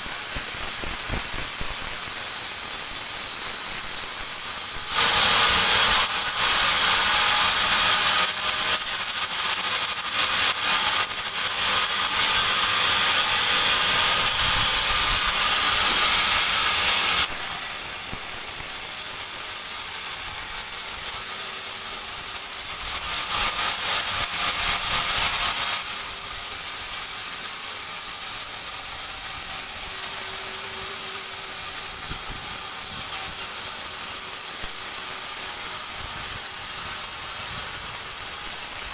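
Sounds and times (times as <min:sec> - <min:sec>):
band saw cutting wood: 0:00.0 - 0:38.9
band saw running: 0:00.0 - 0:38.9.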